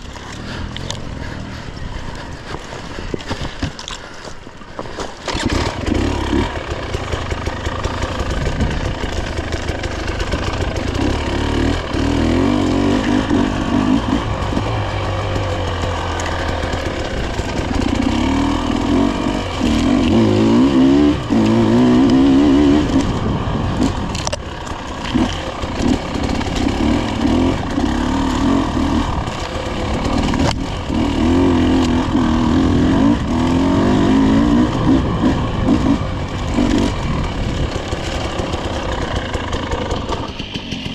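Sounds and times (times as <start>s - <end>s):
dirt bike engine revving: 5.2s - 40.9s.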